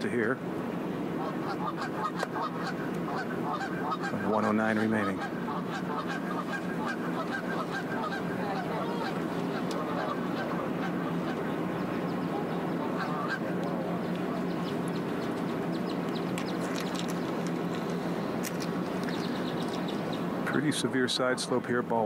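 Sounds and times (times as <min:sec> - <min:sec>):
steady low hum: 0:00.0 - 0:22.0
chorus of bird calls: 0:00.1 - 0:21.8.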